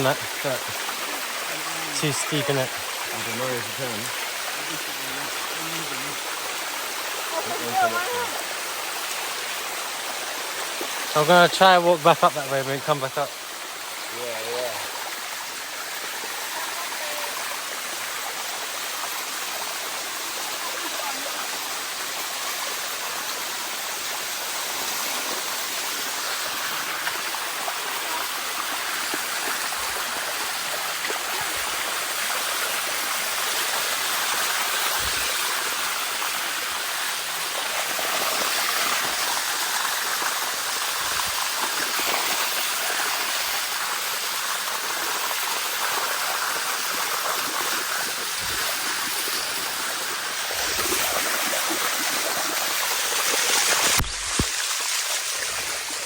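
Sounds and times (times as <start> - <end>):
waterfall and stream rushing: 0.0 - 56.0.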